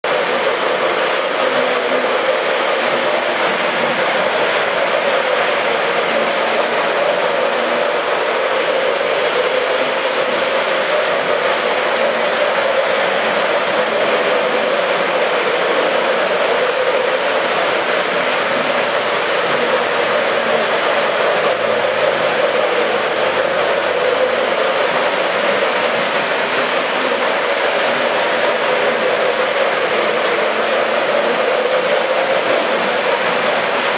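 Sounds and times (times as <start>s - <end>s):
model train motors whirring: 0.1s - 33.9s.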